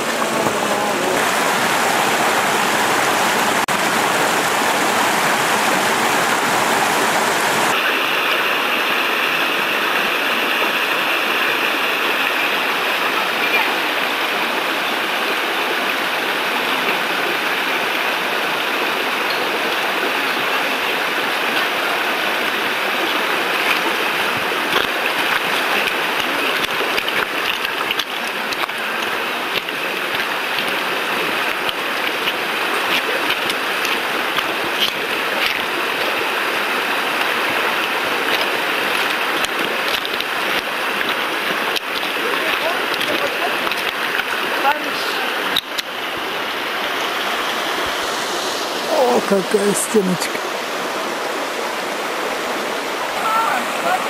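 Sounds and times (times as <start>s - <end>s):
stream rushing over stones: 0.0s - 54.0s.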